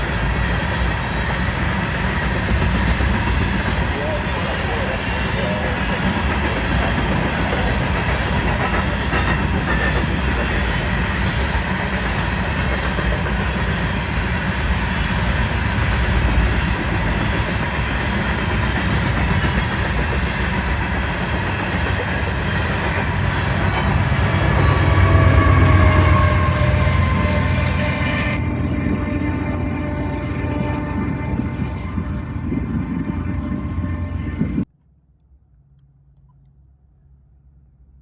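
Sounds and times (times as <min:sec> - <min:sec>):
train rumbling and clattering: 0:00.0 - 0:34.7.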